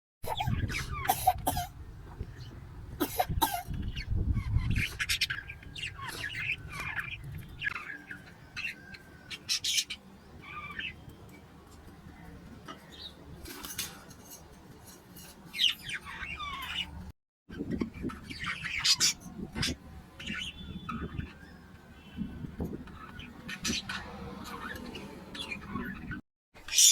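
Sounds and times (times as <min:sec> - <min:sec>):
parrots squawking and chirping: 0:00.3 - 0:01.7, 0:03.2 - 0:11.0, 0:12.1 - 0:26.9.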